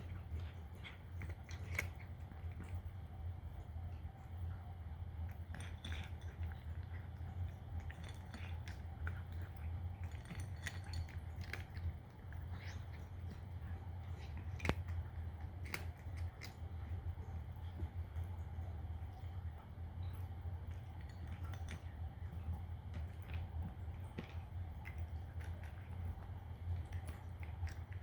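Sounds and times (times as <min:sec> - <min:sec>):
cat crunching dry kibble: 0:00.0 - 0:19.8, 0:20.4 - 0:28.0
steady low hum: 0:00.0 - 0:28.0.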